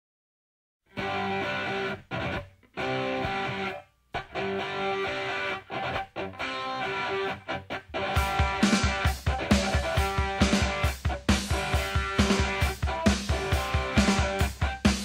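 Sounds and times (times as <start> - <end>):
electric guitar chords: 0.9 - 15.0.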